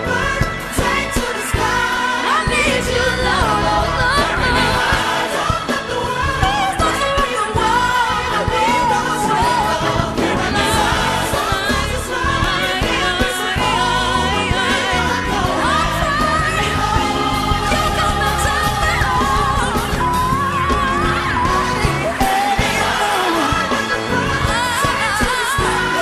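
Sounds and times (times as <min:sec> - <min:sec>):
band with keyboards: 0:00.0 - 0:26.0
gospel choir singing: 0:00.0 - 0:26.0
woman singing lead vocals: 0:00.0 - 0:26.0.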